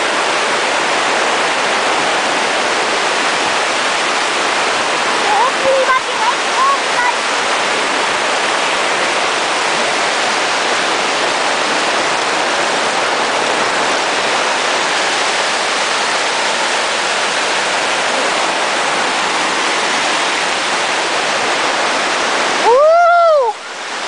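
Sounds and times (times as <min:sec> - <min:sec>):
rapids rushing and churning: 0:00.0 - 0:24.0.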